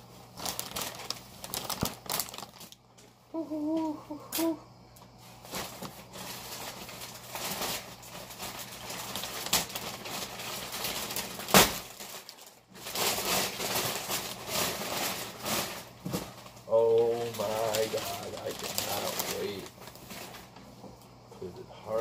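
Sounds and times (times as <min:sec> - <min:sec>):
plastic and bubble wrap crinkling: 0:00.0 - 0:03.5, 0:05.1 - 0:20.9.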